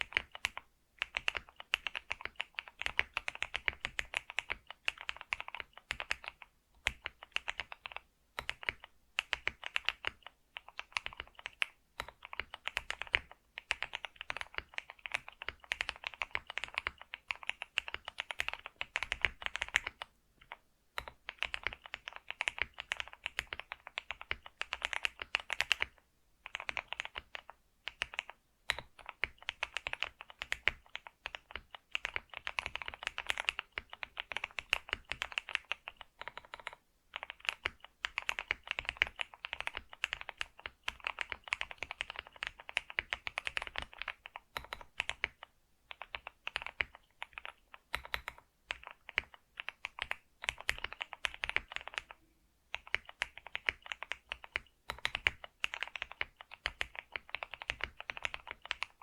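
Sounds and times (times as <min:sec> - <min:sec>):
keyboard typing clicks: 0:00.0 - 0:59.0.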